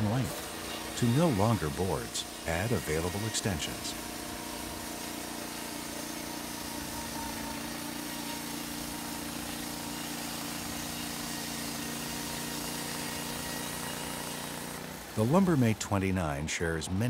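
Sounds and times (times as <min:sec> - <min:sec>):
small gasoline engine running: 0:00.0 - 0:17.0.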